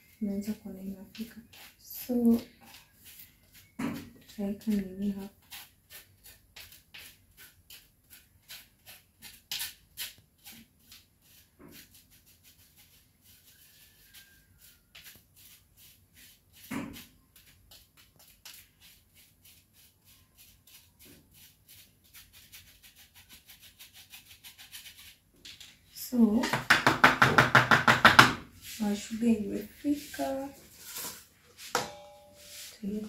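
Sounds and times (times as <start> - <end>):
spoon scratching through a sieve: 0.0 - 25.7, 28.6 - 31.7, 32.4 - 33.0.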